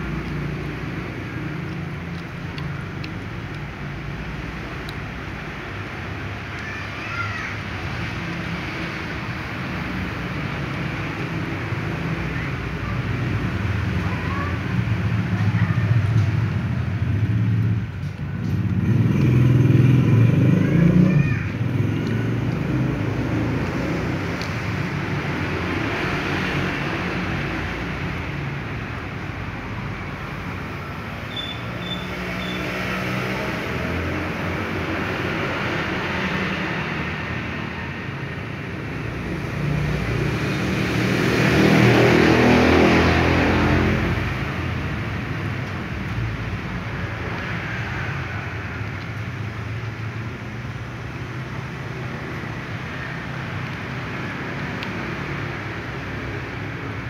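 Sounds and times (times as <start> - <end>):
engine humming with rushing noise: 0.0 - 57.0.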